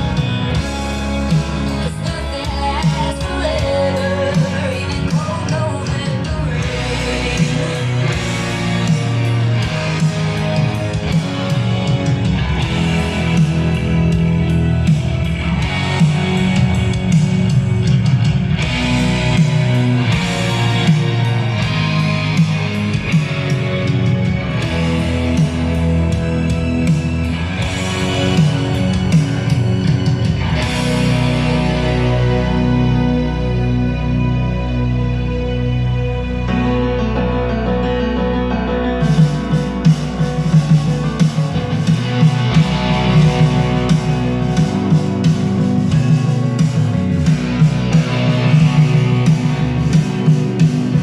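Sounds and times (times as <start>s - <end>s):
rock music through speakers: 0.0s - 51.0s.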